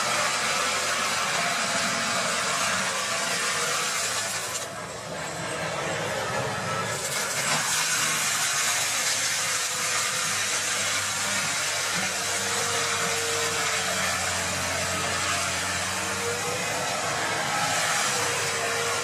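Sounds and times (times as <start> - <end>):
diesel engine running: 0.0 - 19.0
mulcher grinding woody debris: 0.0 - 19.0.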